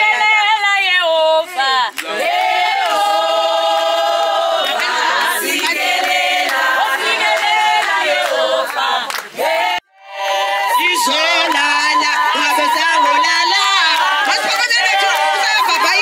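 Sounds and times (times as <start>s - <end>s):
group singing unaccompanied: 0.0s - 16.0s.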